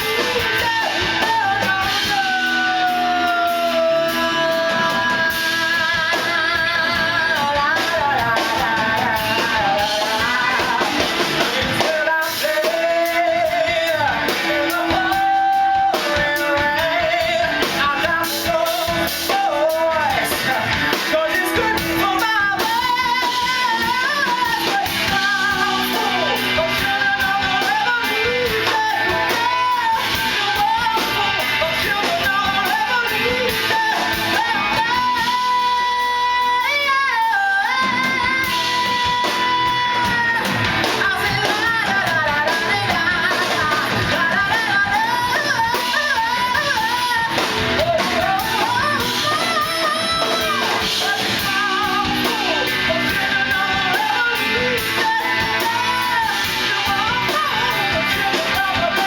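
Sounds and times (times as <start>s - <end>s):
person singing with vibrato: 0.0s - 59.0s
rock band with guitar: 0.0s - 59.0s.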